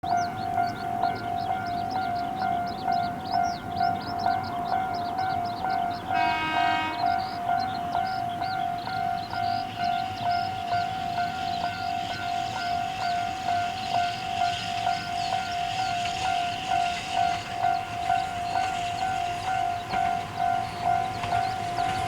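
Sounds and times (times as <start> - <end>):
level crossing alarm ringing: 0.0 - 22.0
train horn blast: 0.6 - 22.0.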